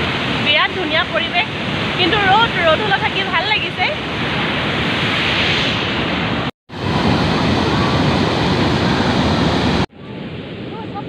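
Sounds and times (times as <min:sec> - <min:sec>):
fast-flowing water rushing: 0:00.0 - 0:09.9.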